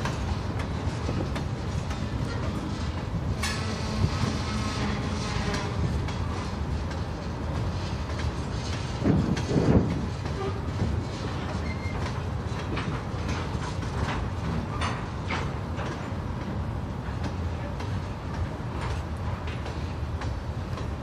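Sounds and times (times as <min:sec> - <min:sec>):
freight train wheels clattering: 0:00.0 - 0:21.0
low train rumble: 0:00.0 - 0:21.0.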